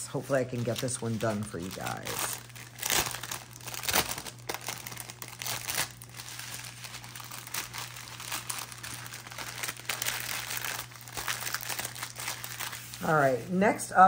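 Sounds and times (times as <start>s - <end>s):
steady low hum: 0.0s - 14.0s
plastic bags crinkling: 0.1s - 13.4s.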